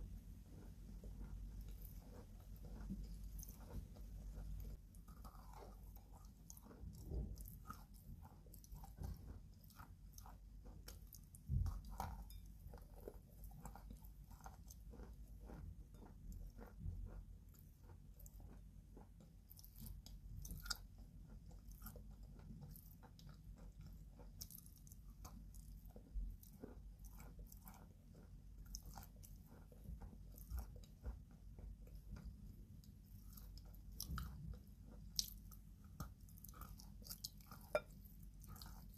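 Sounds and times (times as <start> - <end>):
chewing crunchy chalk: 0.4 - 38.9.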